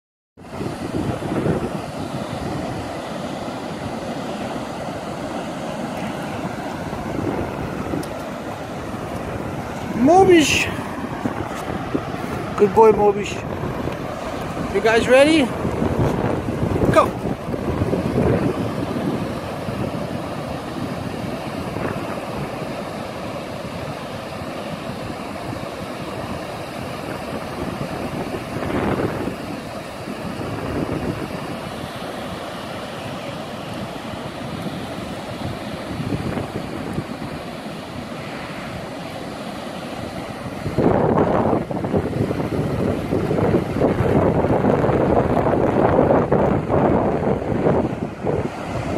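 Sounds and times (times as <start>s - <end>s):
ocean surf rushing: 0.4s - 48.9s
wind buffeting microphone: 0.4s - 48.9s.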